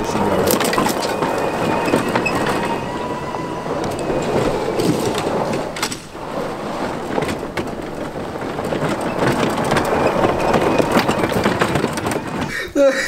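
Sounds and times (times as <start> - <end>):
tyres crunching over gravel: 0.0 - 12.6
stones clicking under wheels: 0.0 - 13.0.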